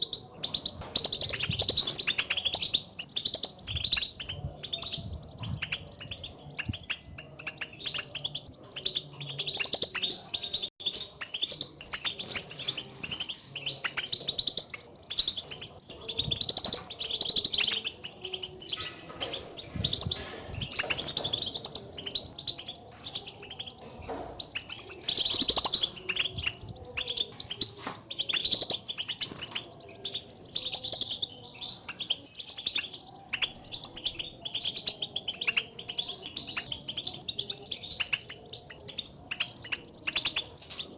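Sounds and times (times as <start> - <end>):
goldfinch chirps and twitters: 0.0 - 40.9.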